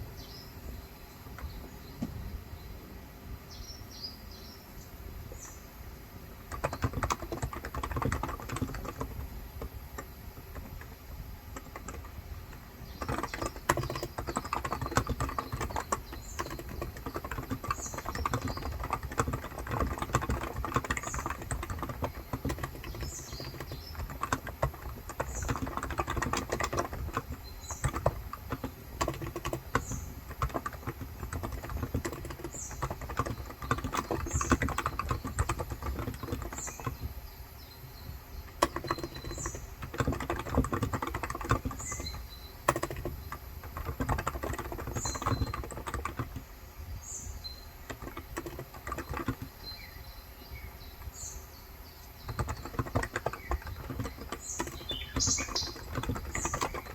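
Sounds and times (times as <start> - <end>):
bird chirping: 0.0 - 9.3, 10.0 - 56.9.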